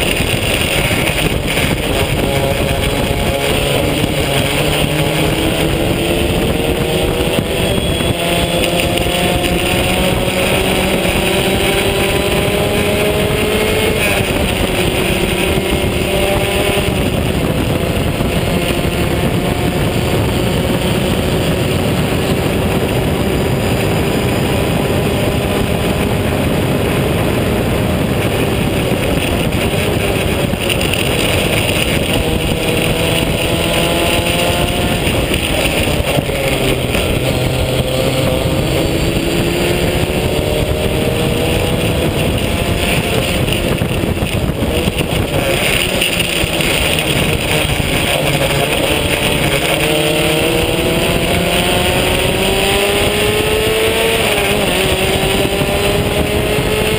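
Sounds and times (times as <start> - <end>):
wind rush: 0.0 - 56.9.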